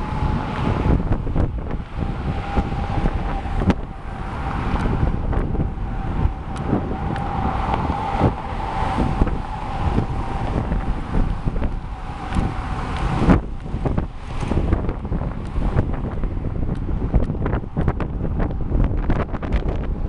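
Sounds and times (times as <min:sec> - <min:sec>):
faint steady whine: 0:00.0 - 0:16.8
wind buffeting microphone: 0:00.0 - 0:20.0.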